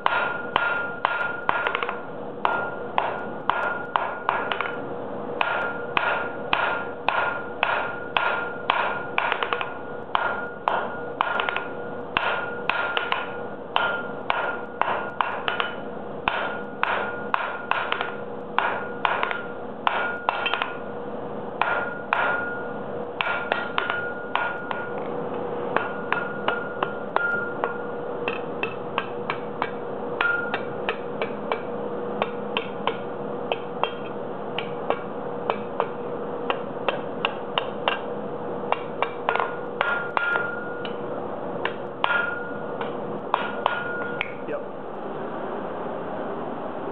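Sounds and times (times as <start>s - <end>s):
hammer striking steel on anvil: 0.0s - 4.8s, 5.4s - 20.9s, 21.6s - 25.1s, 25.7s - 38.1s, 38.7s - 44.4s
steady hum: 0.0s - 46.9s.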